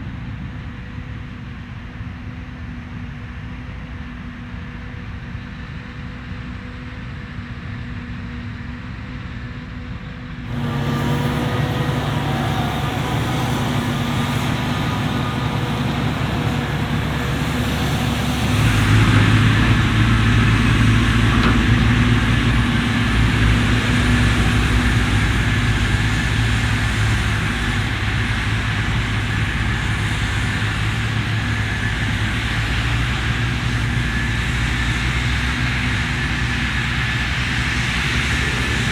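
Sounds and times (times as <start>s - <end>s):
harvester and tractor engines: 3.8s - 38.9s.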